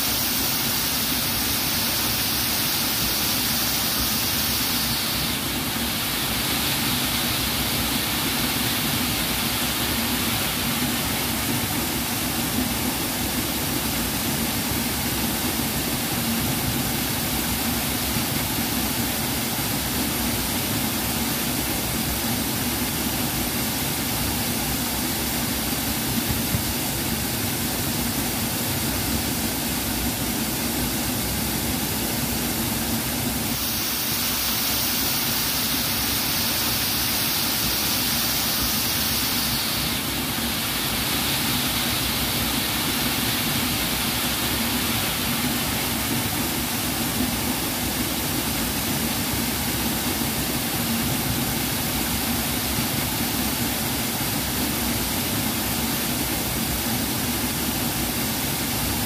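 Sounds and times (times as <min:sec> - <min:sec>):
waterfall pouring into pool: 0:00.0 - 0:59.0.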